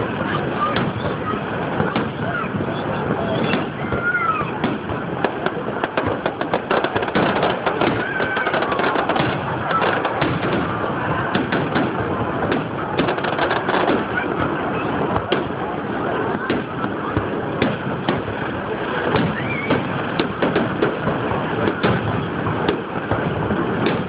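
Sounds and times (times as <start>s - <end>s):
background hubbub: 0.0s - 24.0s
fireworks popping and banging: 0.0s - 24.0s.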